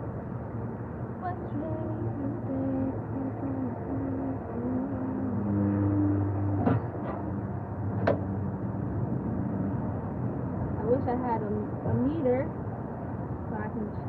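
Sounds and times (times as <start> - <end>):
vehicle engine running: 0.0 - 12.7.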